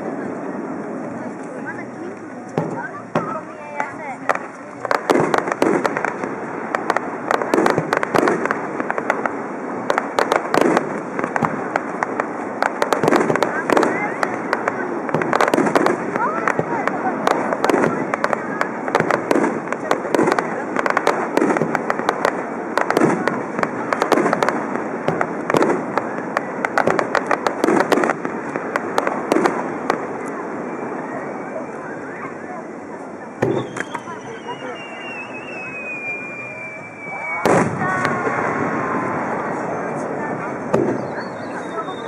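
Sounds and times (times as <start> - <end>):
fireworks crackling and popping: 0.0 - 42.0
sharp firework cracks: 1.2 - 31.2, 33.3 - 42.0.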